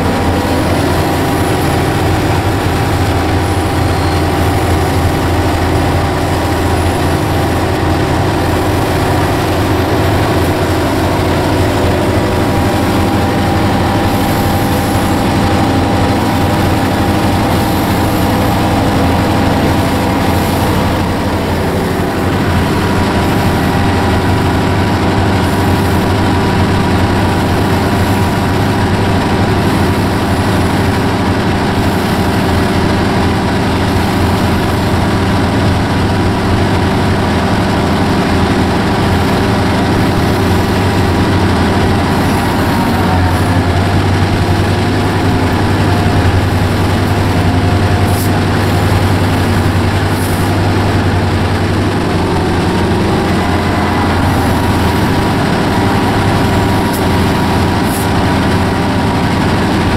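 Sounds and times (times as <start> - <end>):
locomotive engine droning: 0.0 - 59.9.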